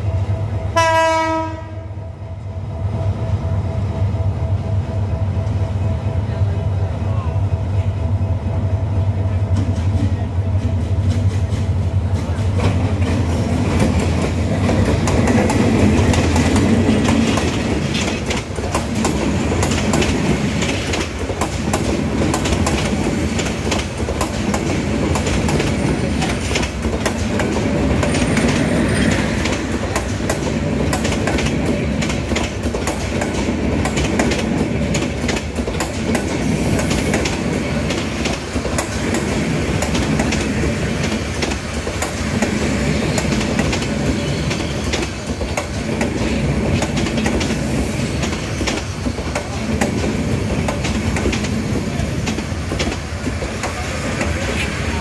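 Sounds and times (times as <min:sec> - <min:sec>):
diesel locomotive droning: 0:00.0 - 0:55.0
train wheels clattering over rail joints: 0:09.5 - 0:55.0.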